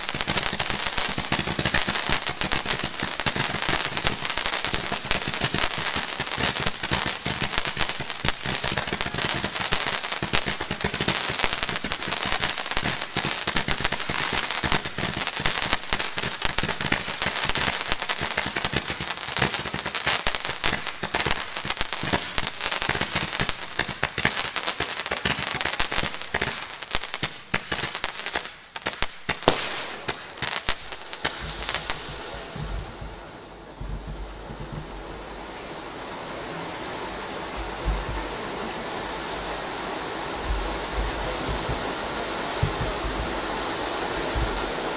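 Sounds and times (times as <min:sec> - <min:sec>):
loud fireworks bang: 0:00.0 - 0:35.2, 0:40.4 - 0:44.9
fireworks crackling pops: 0:00.0 - 0:35.5, 0:37.5 - 0:44.9.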